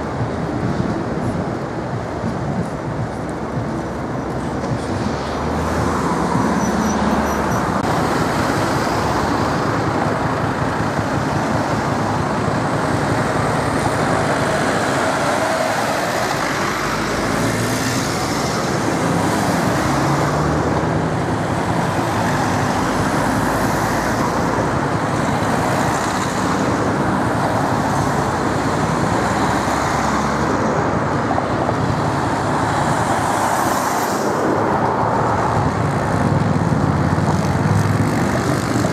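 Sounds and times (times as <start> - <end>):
city street traffic: 0.0 - 38.9.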